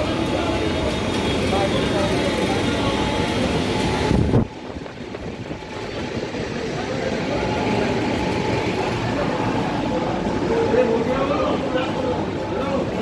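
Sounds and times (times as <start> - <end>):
murmuring voices in a shop: 0.0 - 13.0.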